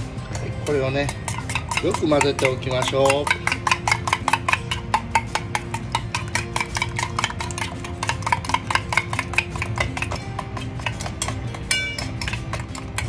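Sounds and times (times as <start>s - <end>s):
spoon clicking against metal bowl: 0.2s - 13.0s.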